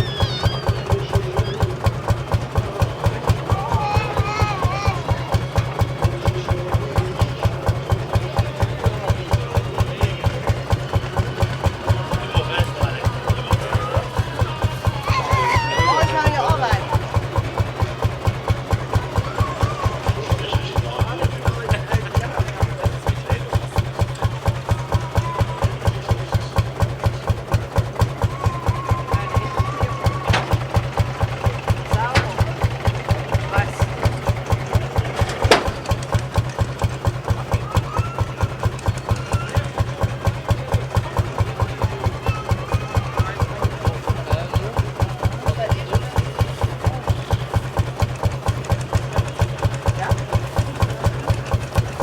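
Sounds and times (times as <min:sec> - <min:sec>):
tractor engine idling: 0:00.0 - 0:52.0.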